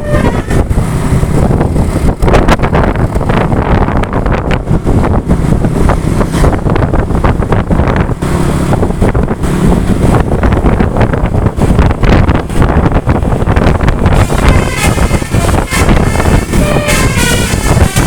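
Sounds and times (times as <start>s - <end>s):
road and engine rumble: 0.0s - 18.0s
wind buffeting microphone: 0.0s - 18.0s.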